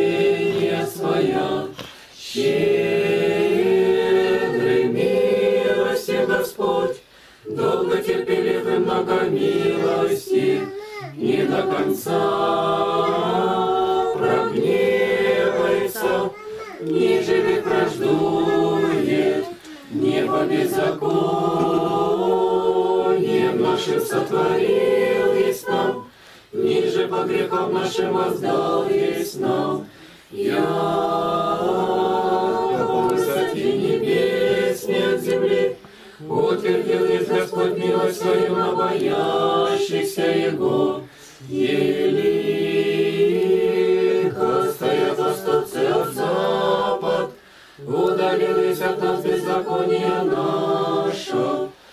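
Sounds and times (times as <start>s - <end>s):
group of voices chanting: 0.0s - 51.8s.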